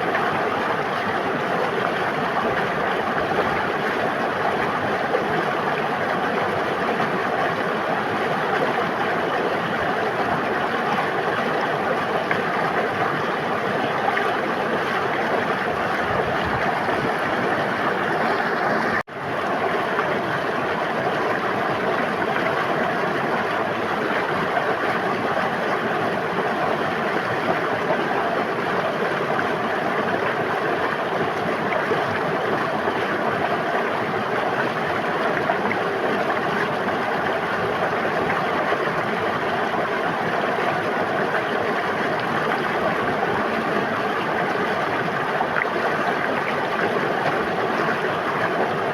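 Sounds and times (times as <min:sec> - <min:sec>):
river water rushing and babbling: 0:00.0 - 0:48.9.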